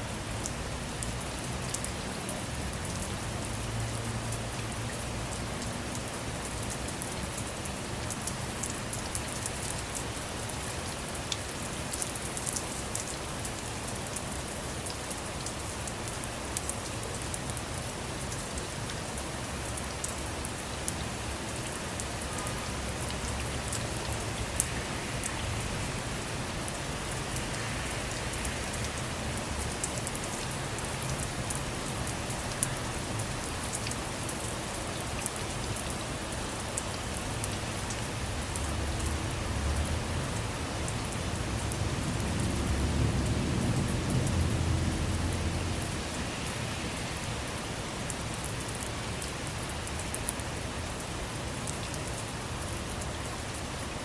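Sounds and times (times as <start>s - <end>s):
rain falling on a car: 0.0s - 54.0s.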